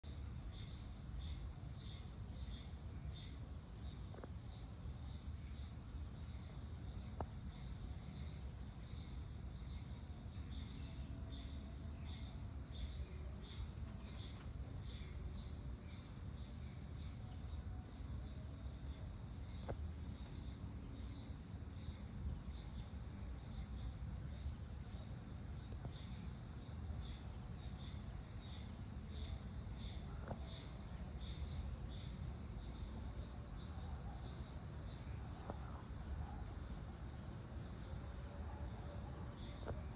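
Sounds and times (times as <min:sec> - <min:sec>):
insects pulsed chirping: 0:00.0 - 0:39.9.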